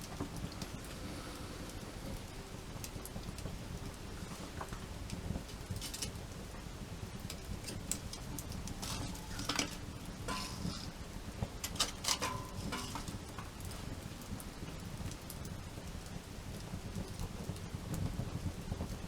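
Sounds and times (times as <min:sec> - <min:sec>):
campfire crackling: 0:00.0 - 0:19.0
fire pops and snaps: 0:00.0 - 0:19.0
low rumble of burning: 0:00.0 - 0:19.0.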